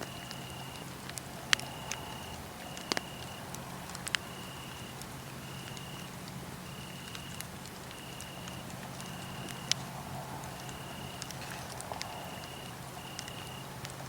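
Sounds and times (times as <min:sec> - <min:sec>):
crickets trilling: 0:00.0 - 0:14.0
wood fire crackling: 0:00.0 - 0:14.0.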